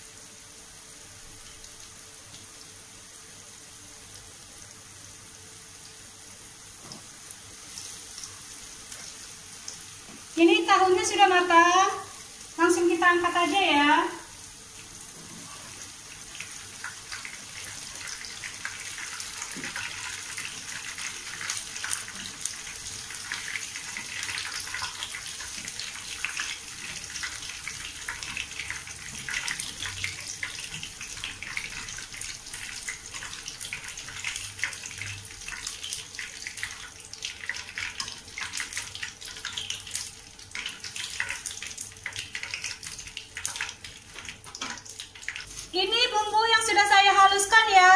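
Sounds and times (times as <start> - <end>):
oil sizzling with crackles: 0.0 - 47.9.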